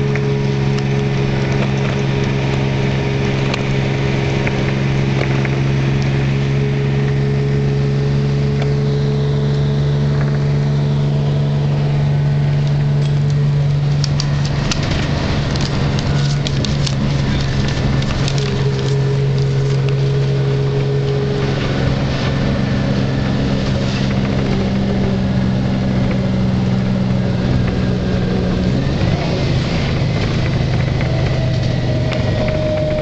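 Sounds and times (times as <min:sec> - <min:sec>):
diesel bus engine droning: 0:00.0 - 0:33.0.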